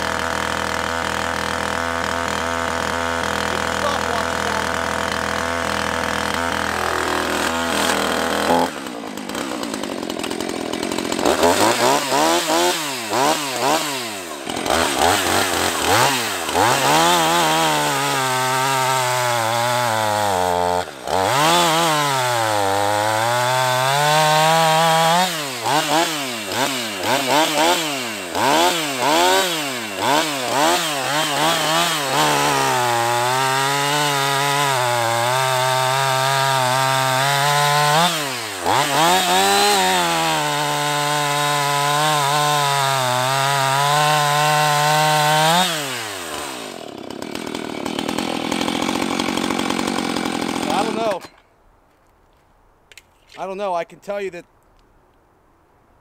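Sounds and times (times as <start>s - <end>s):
chainsaw cutting log: 0.0s - 51.4s.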